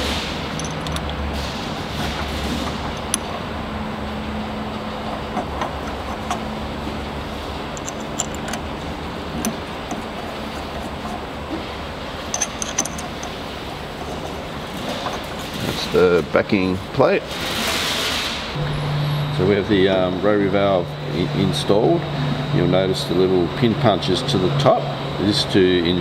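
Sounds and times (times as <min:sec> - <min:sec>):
steady low hum: 0:00.0 - 0:17.4, 0:18.3 - 0:25.8.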